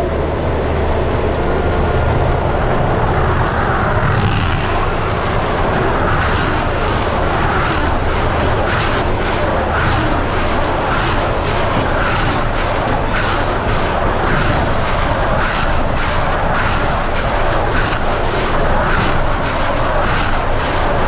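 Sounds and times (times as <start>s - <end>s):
faint regular machinery clatter: 0.0s - 21.0s
tractor diesel engine running: 0.0s - 21.0s.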